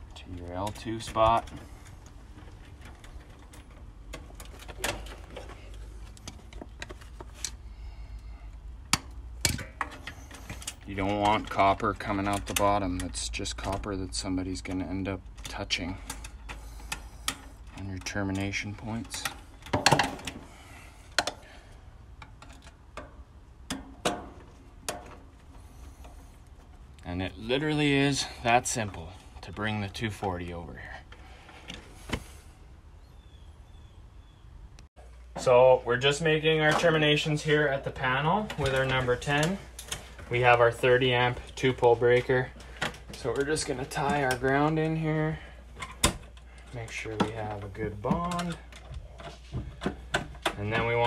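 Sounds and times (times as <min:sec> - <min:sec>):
light clicks of wires handled: 0:00.0 - 0:32.2, 0:36.6 - 0:51.0.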